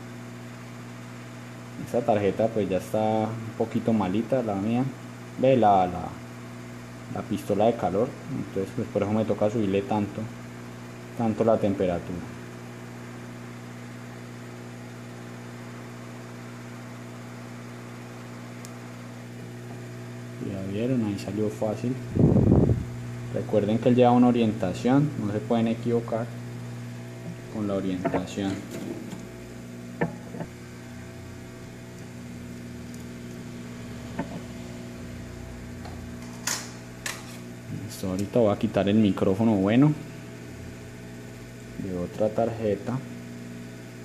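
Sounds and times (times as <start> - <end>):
hot air blower humming: 0.0 - 44.0.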